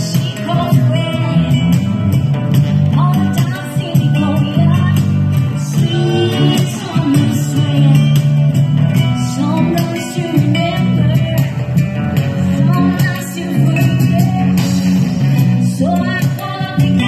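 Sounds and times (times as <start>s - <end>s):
woman singing into a microphone: 0.0s - 2.1s, 2.8s - 17.0s
conga and hand drums: 0.0s - 17.0s
guitars: 0.0s - 17.0s.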